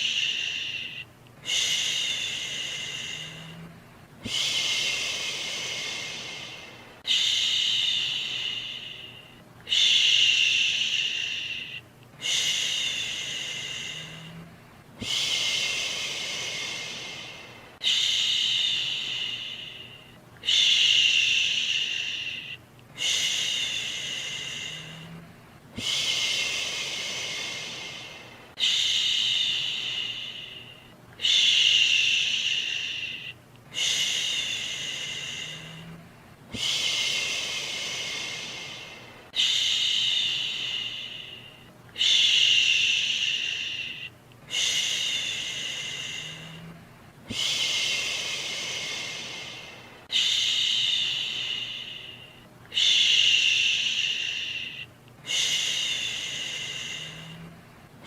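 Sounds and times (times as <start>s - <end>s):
person shushing: 0.0s - 57.6s.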